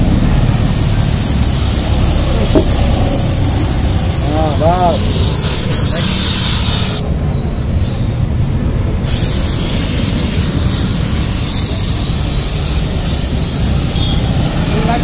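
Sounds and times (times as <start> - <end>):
steam gun hissing: 0.0 - 7.0, 9.1 - 15.0.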